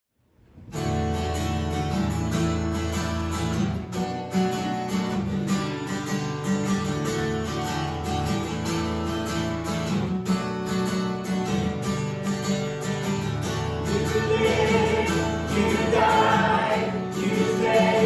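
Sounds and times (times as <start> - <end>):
strummed acoustic guitar music: 0.6 - 18.0.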